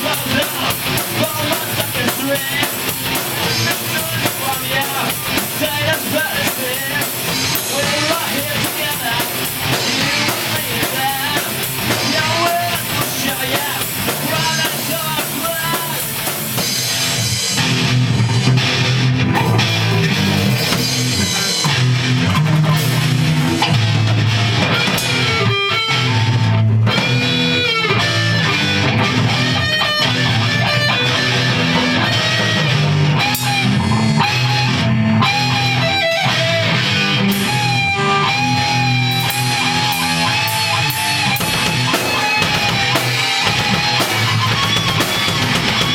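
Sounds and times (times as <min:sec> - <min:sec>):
lead guitar bending notes: 0:00.0 - 0:45.9
punk rock band playing: 0:00.0 - 0:45.9.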